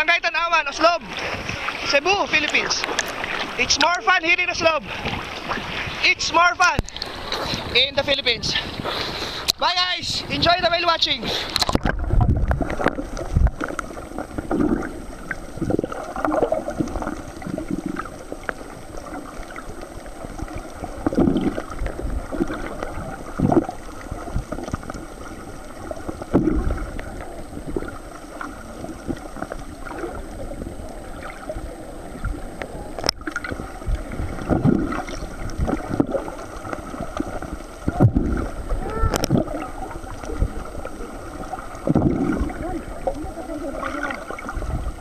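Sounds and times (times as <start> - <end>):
underwater gurgling and sloshing: 0.0 - 45.0.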